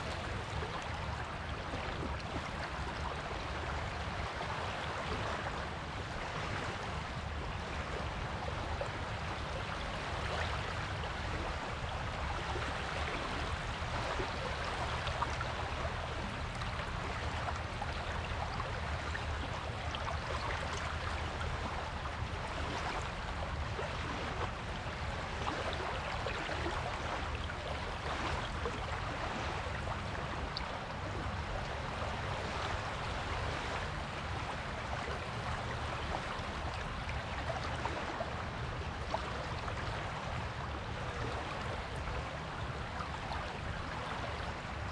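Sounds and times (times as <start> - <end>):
waves breaking on a beach: 0.0 - 44.9.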